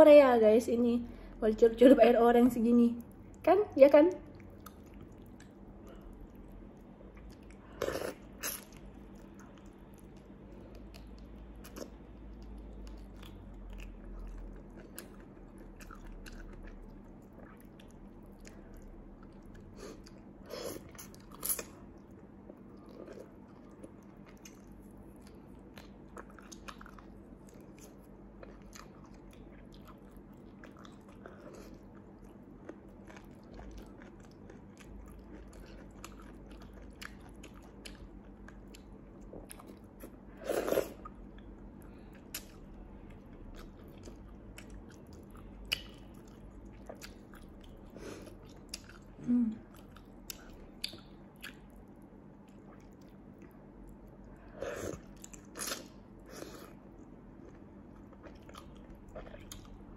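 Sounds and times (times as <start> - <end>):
faint steady hum: 0.0 - 59.9
person chewing food: 4.3 - 59.9.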